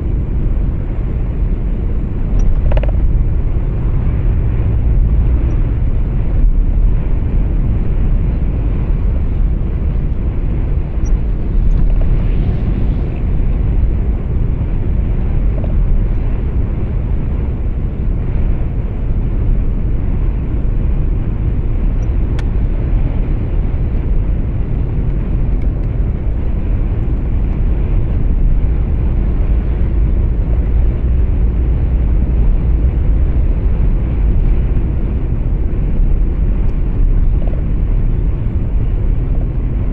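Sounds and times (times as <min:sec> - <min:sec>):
truck engine and tyre rumble: 0:00.0 - 0:39.9.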